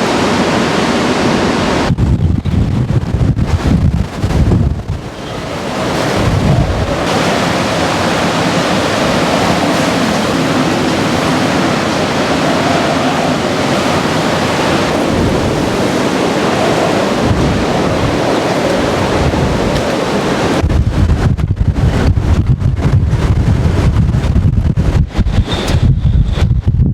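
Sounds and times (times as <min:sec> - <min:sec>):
surf roaring: 0:00.0 - 0:25.8
typhoon wind roaring: 0:00.0 - 0:26.9
wind buffeting microphone: 0:00.0 - 0:26.9.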